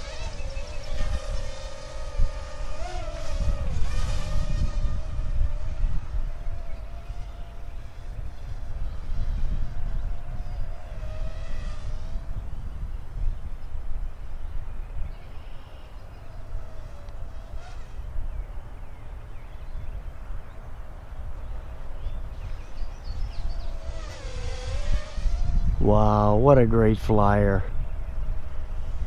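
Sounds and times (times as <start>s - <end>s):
quadcopter propellers whining: 0.0s - 29.0s
wind rumbling on microphone: 0.0s - 29.0s.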